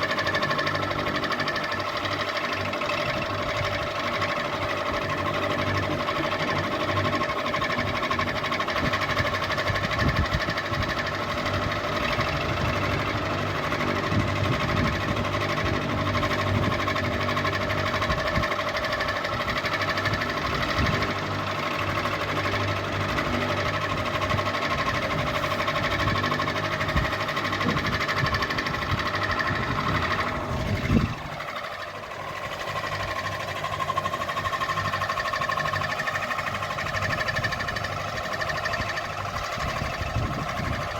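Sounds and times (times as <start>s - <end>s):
ceiling fan motor hum: 0.0s - 40.9s
fan low rattle: 0.0s - 40.9s.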